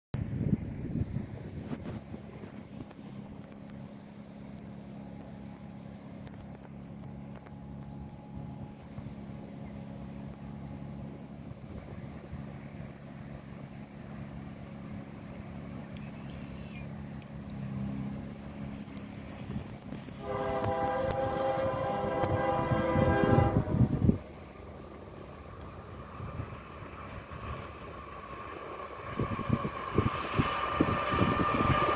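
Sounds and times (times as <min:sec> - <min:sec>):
diesel locomotives droning: 0:00.2 - 0:31.9
insect chirping: 0:00.2 - 0:31.9.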